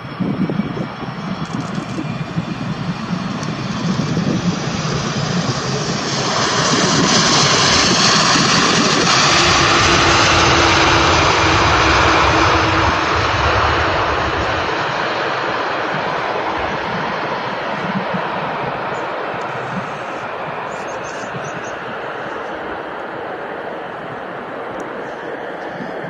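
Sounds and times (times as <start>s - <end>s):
jet engine rush: 0.0s - 26.0s.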